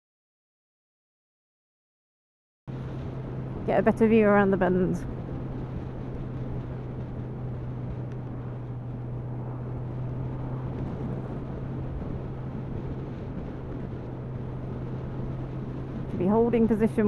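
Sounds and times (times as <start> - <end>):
motorcycle engine cruising: 2.7 - 17.0
wind and road noise: 2.7 - 17.0.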